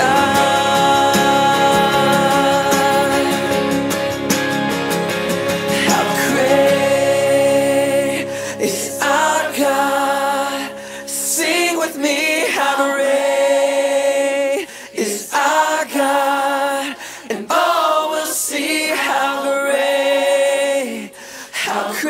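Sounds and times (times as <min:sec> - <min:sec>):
a cappella voices singing in harmony: 0:00.0 - 0:04.1, 0:05.7 - 0:22.0.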